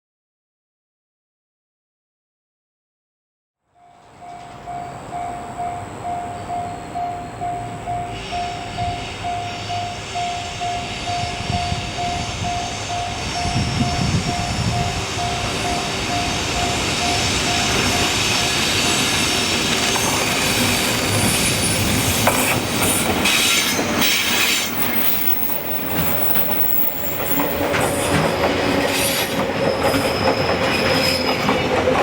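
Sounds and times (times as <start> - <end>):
level crossing warning bell: 3.8 - 31.8
freight train rolling: 3.8 - 32.0.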